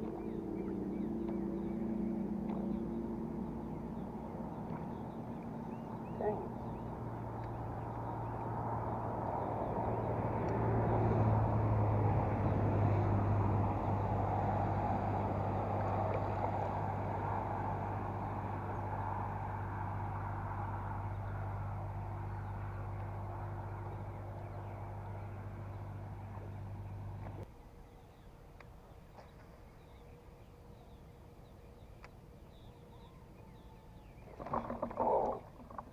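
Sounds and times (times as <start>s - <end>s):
outboard engine passing: 0.0s - 35.9s.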